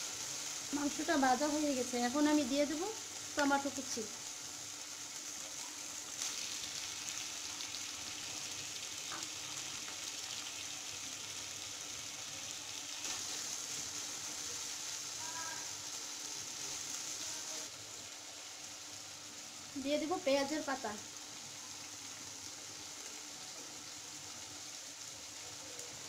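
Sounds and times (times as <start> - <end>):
chicken and onion frying in oil: 0.0 - 26.0.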